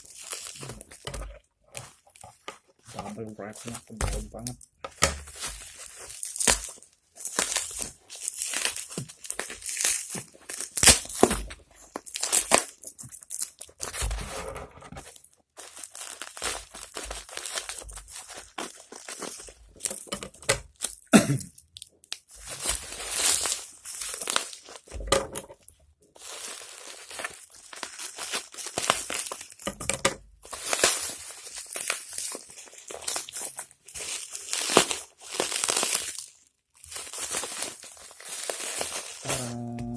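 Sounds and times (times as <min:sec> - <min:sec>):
parcel wrapping tearing and crinkling: 0:00.0 - 0:39.9.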